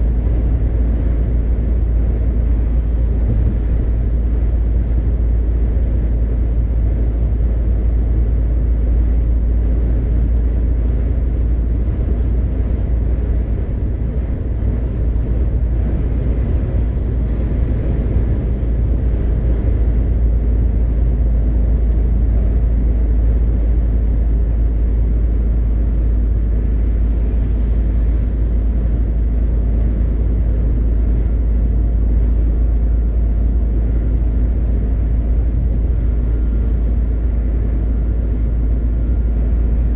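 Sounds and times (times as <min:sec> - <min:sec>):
road and wind noise: 0:00.0 - 0:39.9
truck diesel engine drone: 0:00.0 - 0:39.9.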